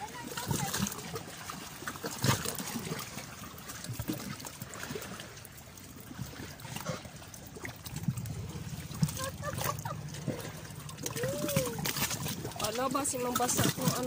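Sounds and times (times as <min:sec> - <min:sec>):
seawater lapping against rock: 0:00.0 - 0:14.0
splashes from wading: 0:00.0 - 0:14.0.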